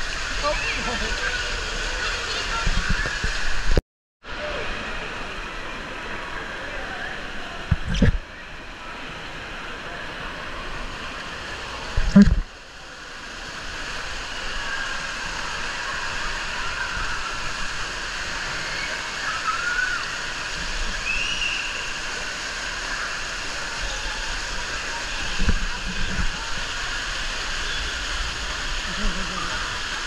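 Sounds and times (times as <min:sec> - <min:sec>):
water rushing down slide: 0:00.0 - 0:30.0.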